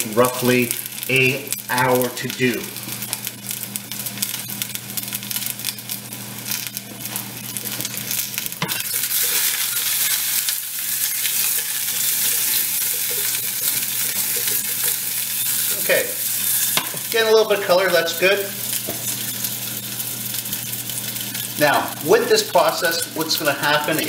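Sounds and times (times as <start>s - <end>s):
potatoes sizzling in hot oil: 0.0s - 24.0s.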